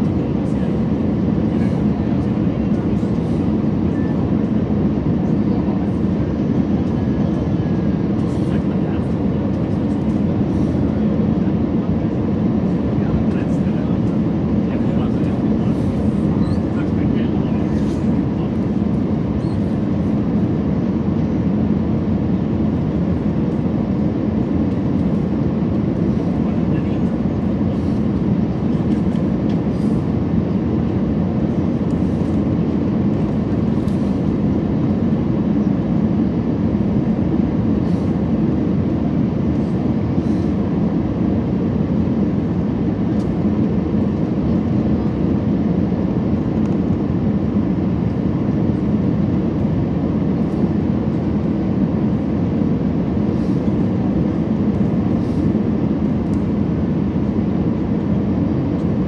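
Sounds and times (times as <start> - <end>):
jet engines and airflow roar: 0.0 - 59.0.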